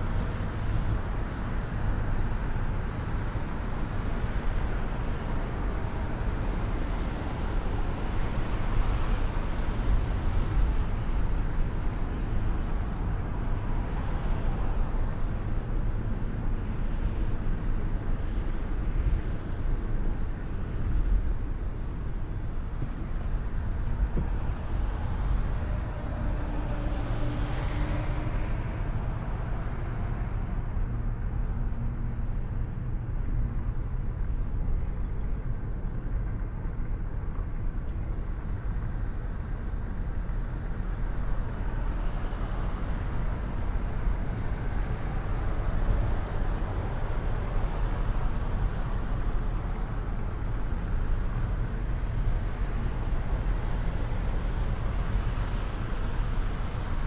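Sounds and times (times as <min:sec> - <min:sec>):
car interior road rumble: 0:00.0 - 0:57.0
passing vehicle: 0:00.0 - 0:57.0.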